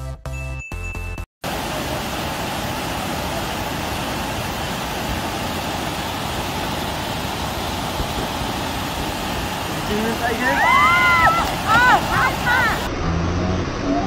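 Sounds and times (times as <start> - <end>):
floodwater rushing: 1.4 - 12.9.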